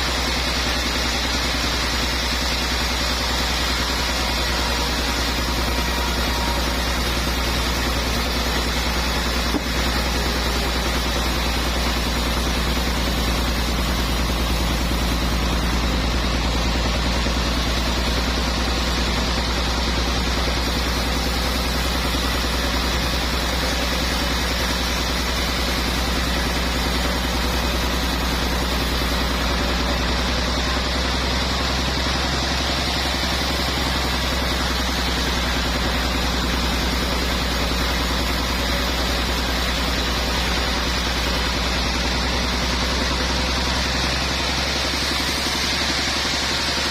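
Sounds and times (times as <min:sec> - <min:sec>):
sawmill machinery drone: 0:00.0 - 0:46.9.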